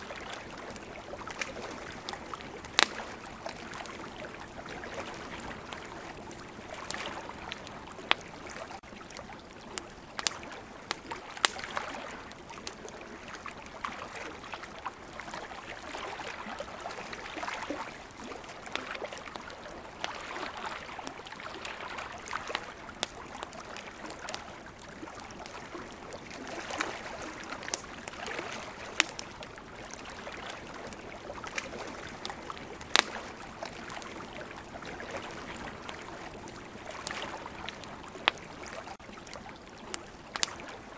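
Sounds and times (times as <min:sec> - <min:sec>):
ocean waves: 0:00.0 - 0:09.4, 0:10.0 - 0:40.9
campfire crackling and popping: 0:00.0 - 0:40.9.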